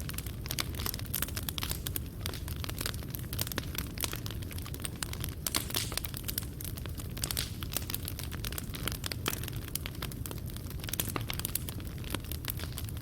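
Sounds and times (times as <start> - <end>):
burning coals popping and snapping: 0.0 - 13.0
low rumble of fire: 0.0 - 13.0.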